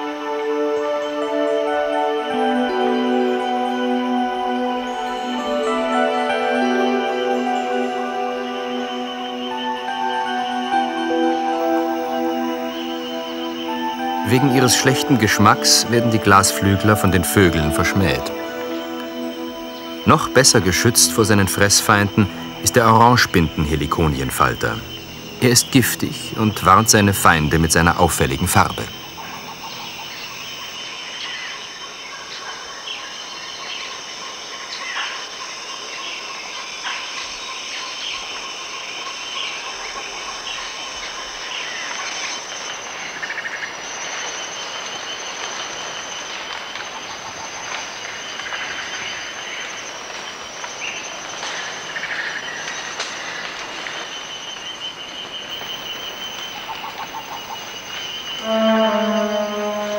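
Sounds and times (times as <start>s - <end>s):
high-pitched insect trilling: 1.1s - 59.9s.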